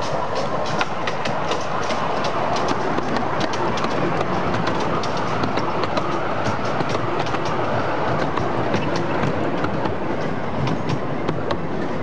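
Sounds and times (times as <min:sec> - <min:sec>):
train carriages rumbling: 0:00.0 - 0:12.0
wheels clicking on rails: 0:00.0 - 0:12.0.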